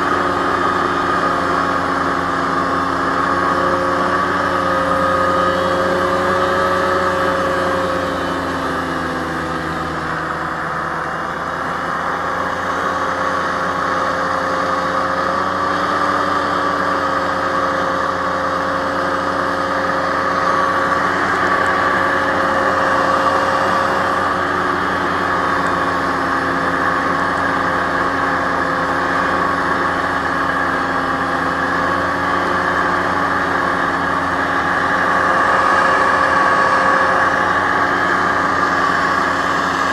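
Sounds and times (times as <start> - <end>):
hovercraft engine drone: 0.0 - 39.9.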